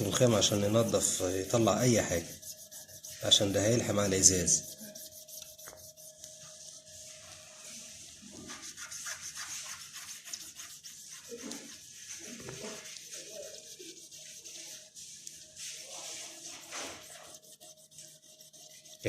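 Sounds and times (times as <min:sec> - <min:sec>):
faint rapid rubbing on glass: 0:00.0 - 0:19.0.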